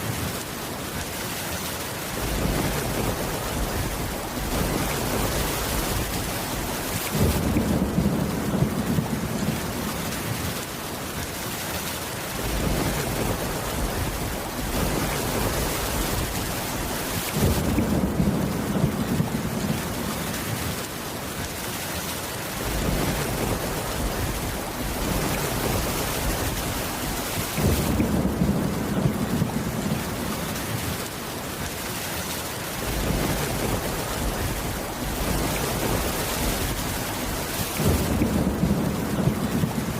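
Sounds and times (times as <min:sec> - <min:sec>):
rain on a wooden roof: 0:00.0 - 0:39.9
low thunder rumble: 0:02.2 - 0:10.4, 0:12.4 - 0:20.7, 0:22.6 - 0:31.0, 0:32.8 - 0:39.9.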